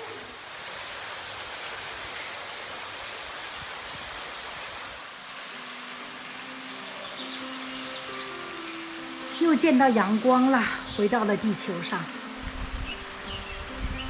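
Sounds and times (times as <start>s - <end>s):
running water rushing: 0.0s - 12.2s.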